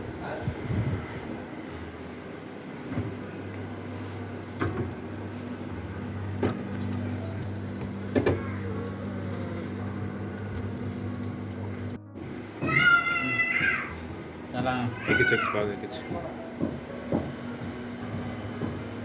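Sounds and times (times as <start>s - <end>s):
electric motor hum: 3.4s - 19.0s.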